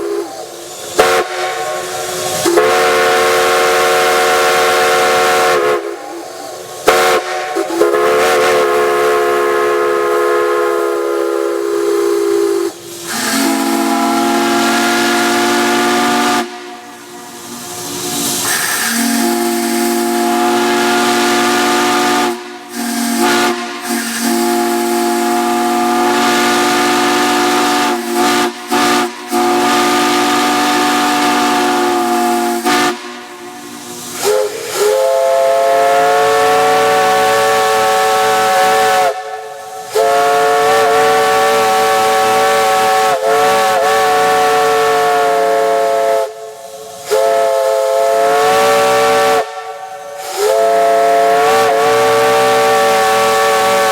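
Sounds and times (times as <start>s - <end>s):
high steam chime whistle: 0.0s - 53.9s
low steam chime whistle: 0.0s - 53.9s
steam hiss: 0.0s - 53.9s.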